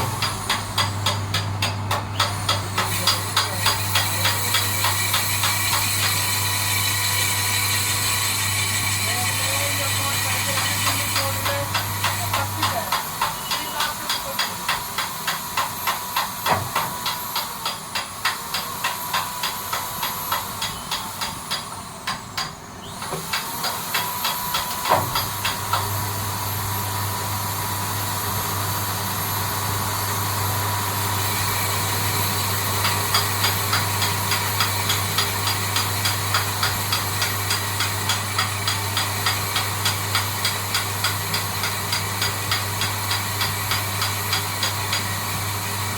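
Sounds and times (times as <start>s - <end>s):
lathe machining hiss: 2.1s - 45.9s.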